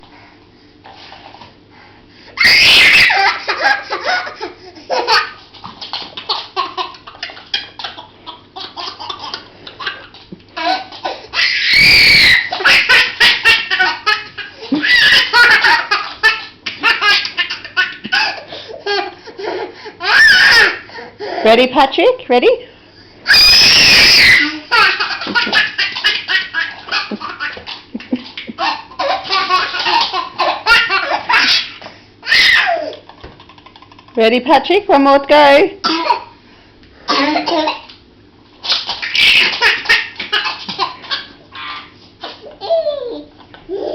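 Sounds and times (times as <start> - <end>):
baby laughing: 2.4 - 20.8, 23.4 - 34.2, 37.1 - 38.0, 38.7 - 43.9.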